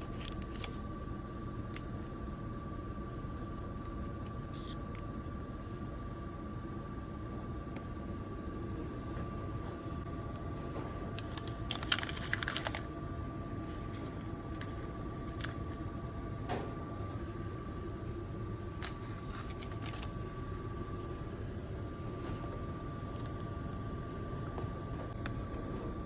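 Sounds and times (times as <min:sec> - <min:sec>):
vending machine humming: 0:00.0 - 0:26.0.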